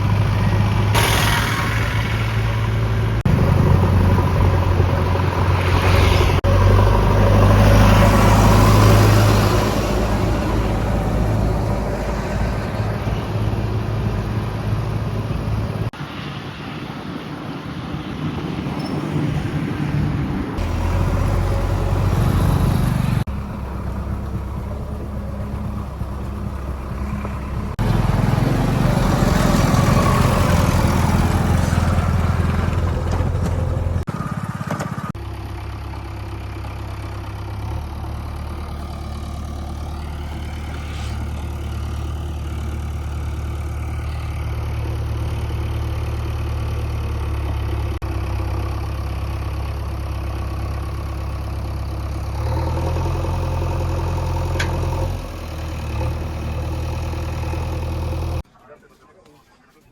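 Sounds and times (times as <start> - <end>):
heavy diesel engines working: 0.0 - 59.7.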